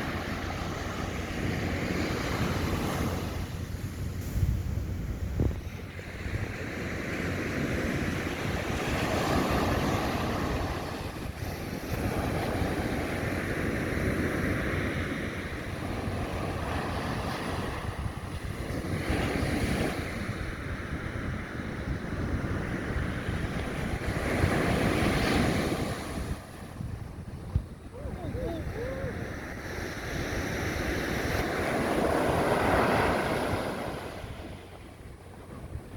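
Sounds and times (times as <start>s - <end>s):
sea waves breaking on beach: 0.0s - 4.7s, 5.6s - 35.8s
wind rumbling on microphone: 0.0s - 35.9s.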